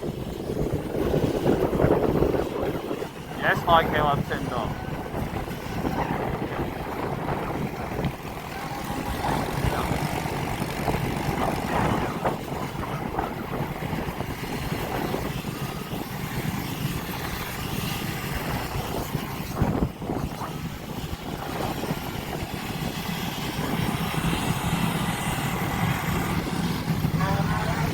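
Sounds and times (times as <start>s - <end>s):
dirt bikes revving: 0.0s - 27.9s.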